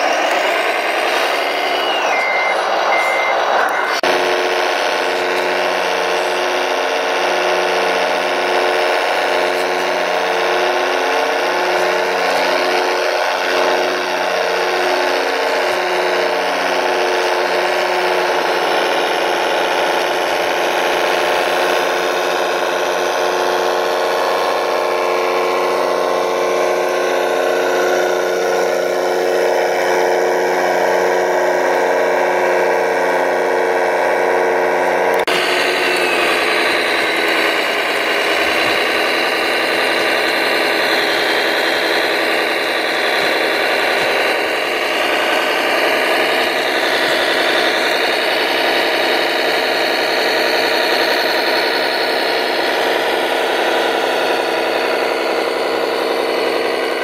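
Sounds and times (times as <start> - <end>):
electric motor whine: 0.0 - 57.0.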